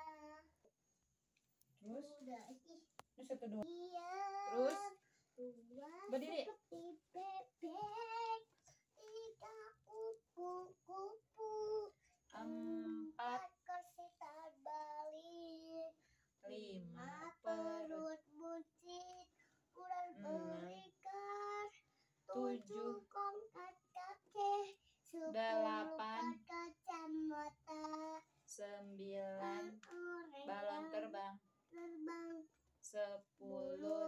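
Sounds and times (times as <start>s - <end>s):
boy singing a chant: 0.0s - 0.5s, 3.6s - 31.1s, 31.7s - 34.0s.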